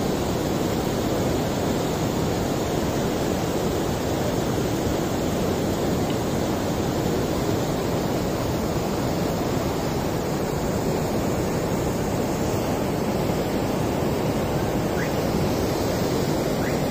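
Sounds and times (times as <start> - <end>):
water rushing through floodgates: 0.0 - 16.9.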